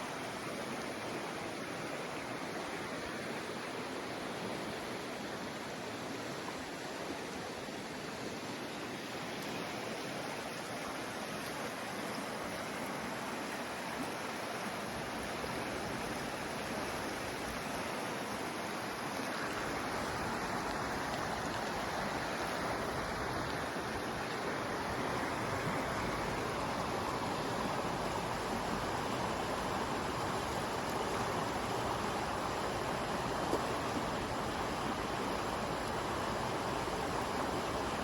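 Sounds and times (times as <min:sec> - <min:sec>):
running water rushing: 0:00.0 - 0:38.0.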